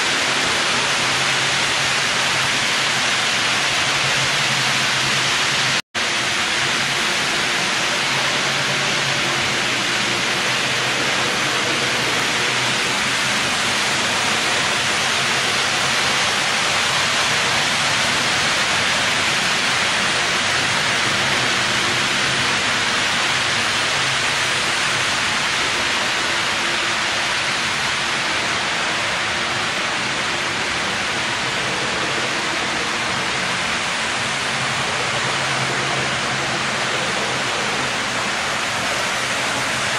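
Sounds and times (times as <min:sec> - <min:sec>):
steady rushing noise: 0:00.0 - 0:39.9.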